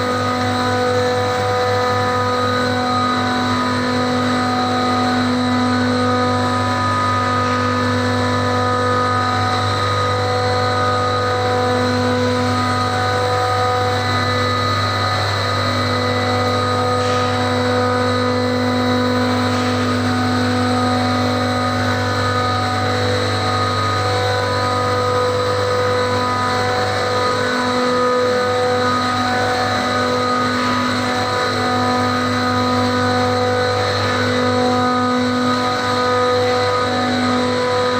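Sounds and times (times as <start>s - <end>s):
chiller machinery humming: 0.0s - 37.9s
high mechanical whines: 0.0s - 37.9s.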